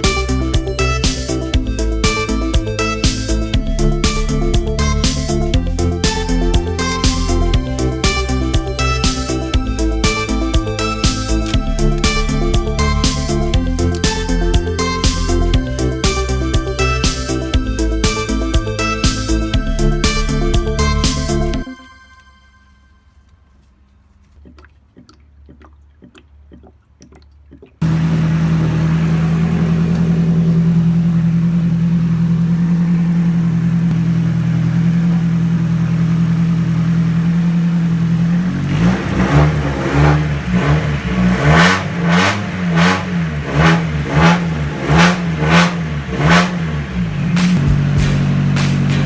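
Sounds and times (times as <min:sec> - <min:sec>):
car engine running: 0:00.0 - 0:21.7, 0:27.8 - 0:49.0
engine revving: 0:00.0 - 0:21.7, 0:27.8 - 0:49.0.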